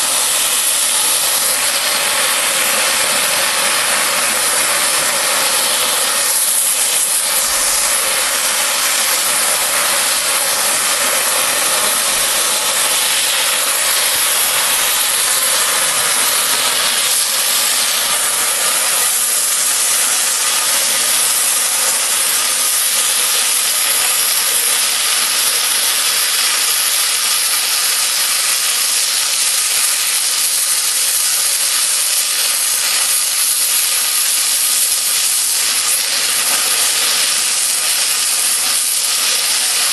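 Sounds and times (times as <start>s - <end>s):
cutting torch hissing: 0.0s - 39.9s.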